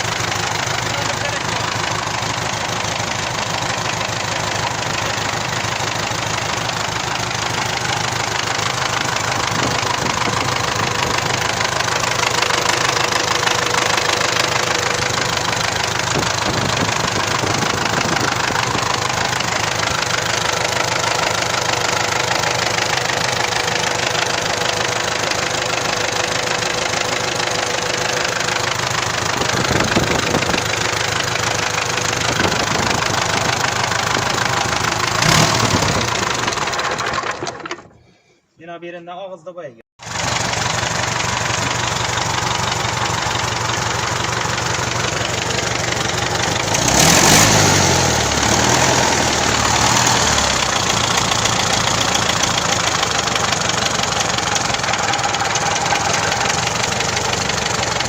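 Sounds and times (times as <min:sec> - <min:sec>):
tractor diesel engine clattering: 0:00.0 - 0:38.0, 0:40.0 - 0:58.0.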